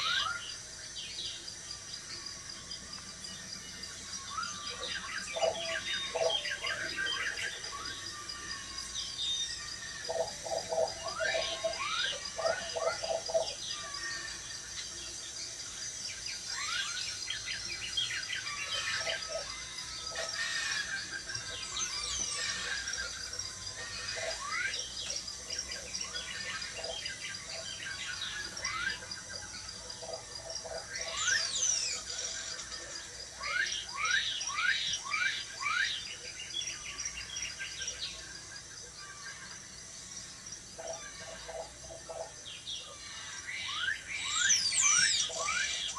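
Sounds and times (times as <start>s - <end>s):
birds chirping and calling: 0.0s - 45.9s.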